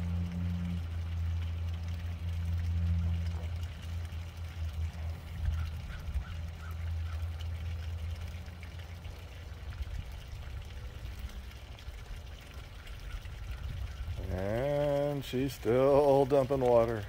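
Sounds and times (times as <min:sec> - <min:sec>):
water pouring and splashing on ground: 0:00.0 - 0:17.0.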